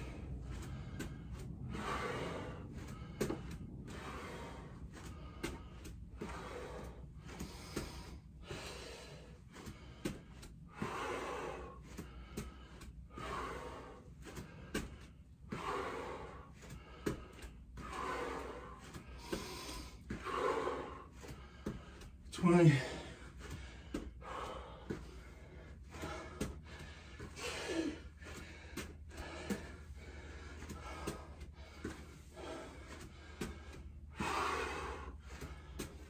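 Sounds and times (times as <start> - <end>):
man breathing hard: 0.0 - 36.0.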